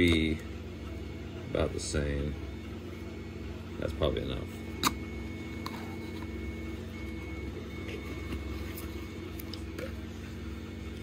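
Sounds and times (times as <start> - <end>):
low machine hum with whine: 0.0 - 11.0.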